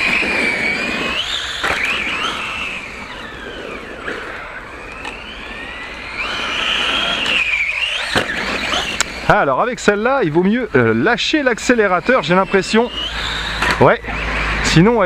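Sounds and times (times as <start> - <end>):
electric motor whining: 0.0 - 15.0
steady rushing noise: 0.0 - 15.0.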